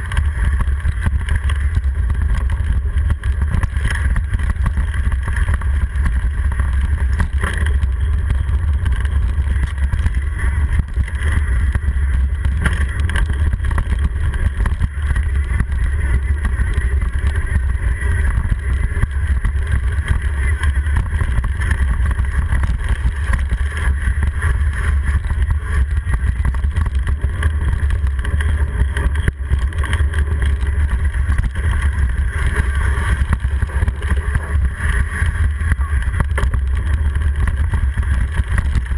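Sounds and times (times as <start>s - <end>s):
bike rattling: 0.0s - 38.9s
wind rumble on microphone: 0.0s - 38.9s.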